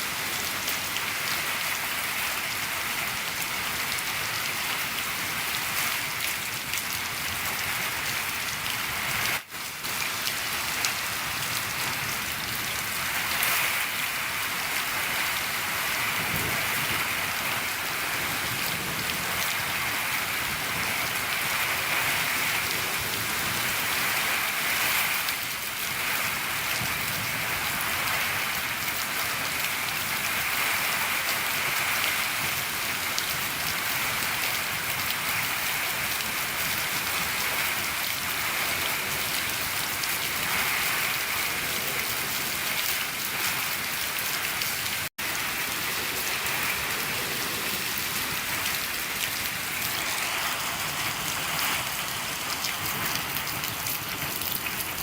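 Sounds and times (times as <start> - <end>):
rain on a shed roof: 0.0 - 55.0.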